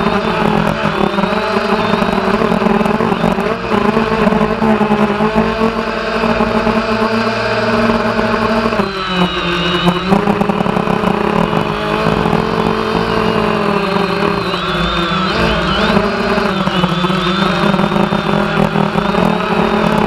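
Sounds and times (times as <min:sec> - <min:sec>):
drone motors whirring: 0:00.0 - 0:20.0.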